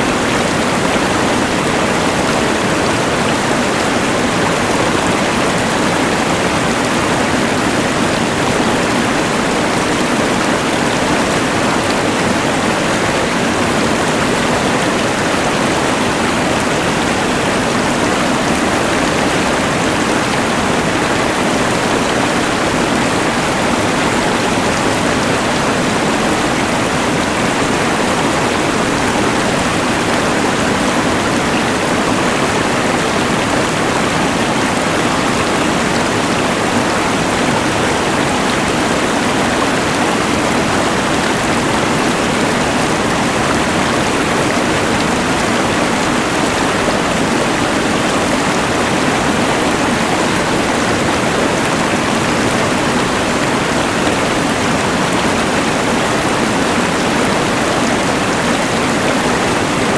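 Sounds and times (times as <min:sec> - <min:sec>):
rushing mountain river: 0:00.0 - 0:59.9.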